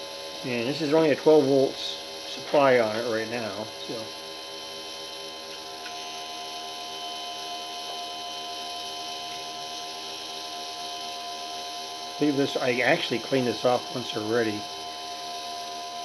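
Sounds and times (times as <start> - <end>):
dynamotor hum with high whine: 0.0 - 16.0.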